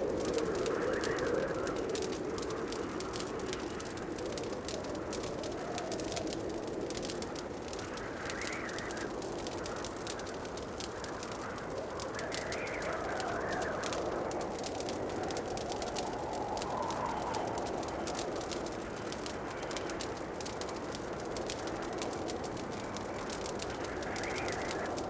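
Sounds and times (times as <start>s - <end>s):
soft rushing of flames: 0.0s - 25.0s
wood fire crackling: 0.0s - 25.0s.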